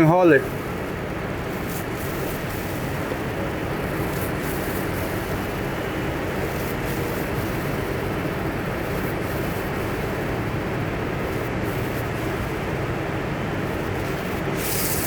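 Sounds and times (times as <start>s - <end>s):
electric awning motor running: 0.0s - 15.0s.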